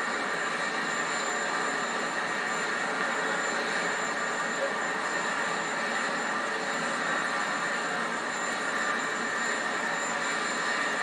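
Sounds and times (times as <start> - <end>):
helicopter turbine engines whining: 0.0 - 11.0.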